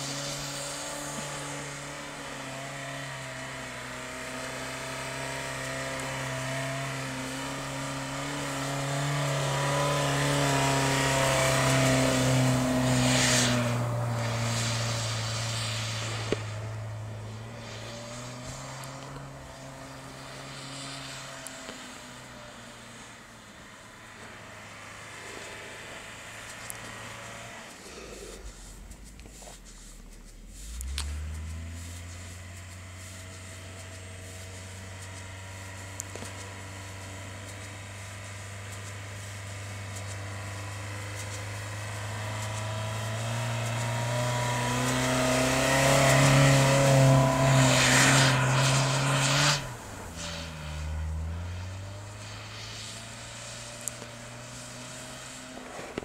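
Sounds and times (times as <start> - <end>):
car engine at steady revs: 0.0 - 56.0
hiss of thrown snow: 0.0 - 56.0.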